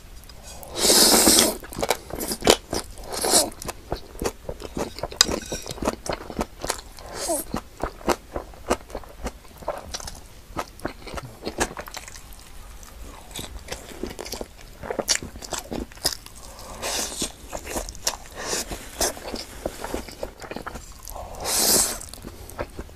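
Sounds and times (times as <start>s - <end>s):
wet chewing and smacking: 1.3s - 22.9s.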